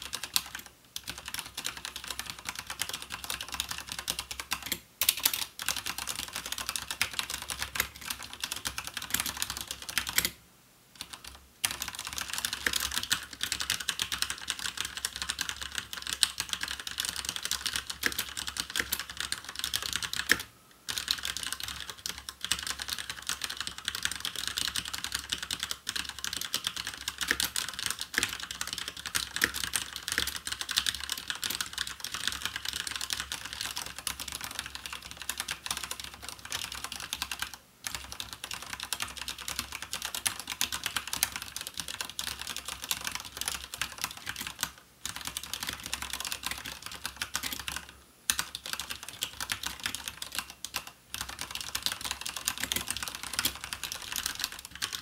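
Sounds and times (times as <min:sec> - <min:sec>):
fast mechanical keyboard typing: 0:00.0 - 0:10.4, 0:11.0 - 0:55.0.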